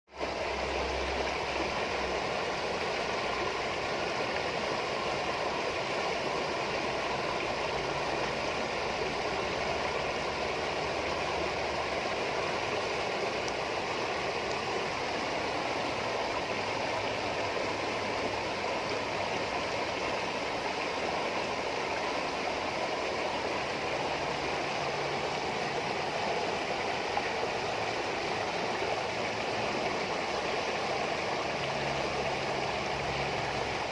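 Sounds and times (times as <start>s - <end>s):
water trickling and babbling: 0.1s - 33.9s.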